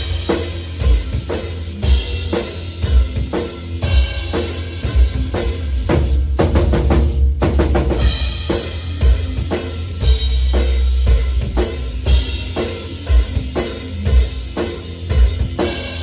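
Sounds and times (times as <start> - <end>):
heavy metal drum kit: 0.0 - 16.0.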